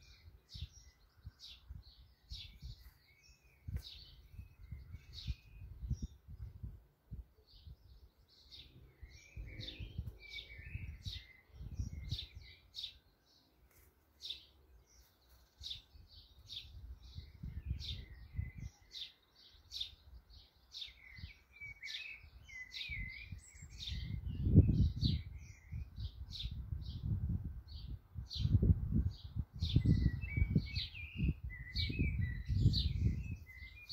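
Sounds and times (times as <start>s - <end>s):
blackbird warbling song: 0.0s - 33.9s
sparrows chirping: 0.0s - 33.9s.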